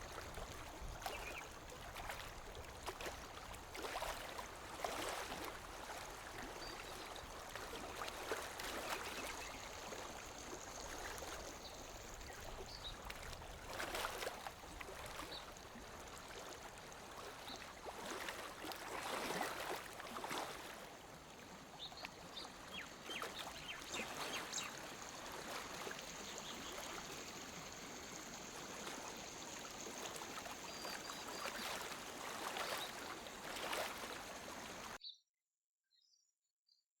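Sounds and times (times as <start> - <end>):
water lapping at shore: 0.0 - 35.0.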